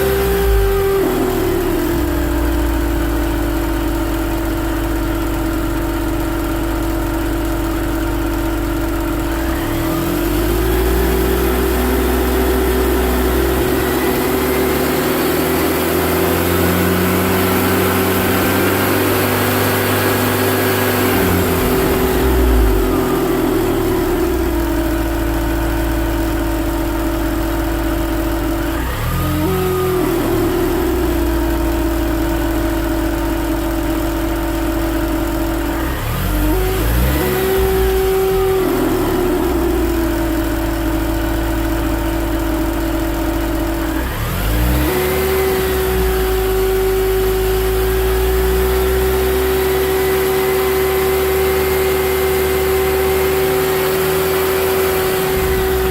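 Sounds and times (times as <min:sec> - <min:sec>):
supercharger whirring drone: 0:00.0 - 0:05.0, 0:09.2 - 0:34.0, 0:34.7 - 0:55.9
car engine revving: 0:00.0 - 0:55.9.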